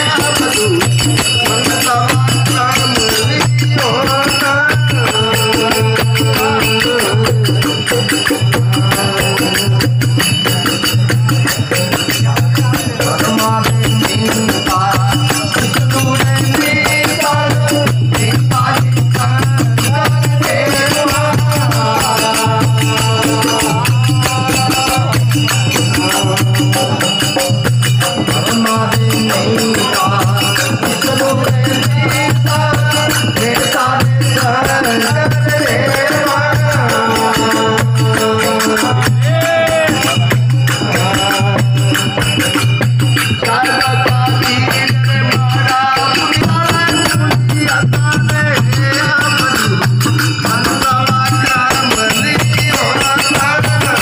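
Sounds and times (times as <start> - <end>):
jingling hand percussion: 0.0 - 54.0
low drum beat: 0.0 - 54.0
men singing: 0.0 - 54.0.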